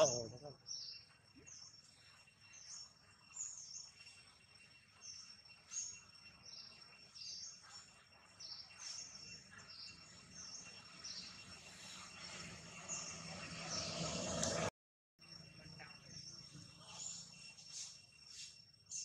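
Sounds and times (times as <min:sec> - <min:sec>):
bird chirps: 0:00.0 - 0:14.3, 0:15.3 - 0:19.0
high-pitched insect whine: 0:00.0 - 0:14.6, 0:15.2 - 0:19.0.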